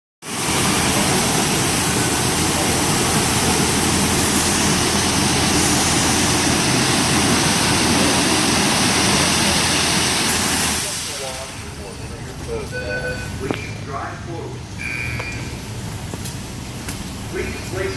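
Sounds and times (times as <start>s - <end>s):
car wash spraying and drying: 0.2s - 17.9s.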